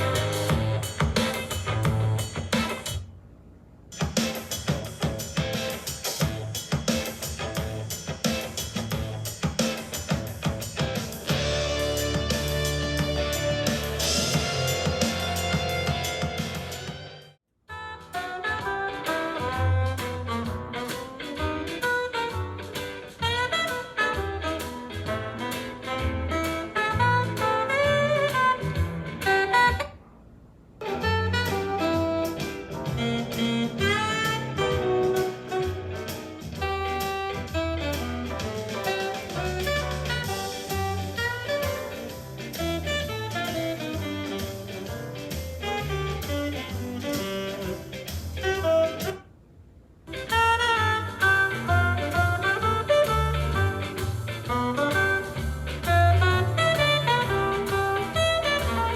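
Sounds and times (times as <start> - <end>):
instrumental music with strong bass: 0.0 - 3.1, 3.9 - 29.9, 30.8 - 49.3, 50.1 - 58.9.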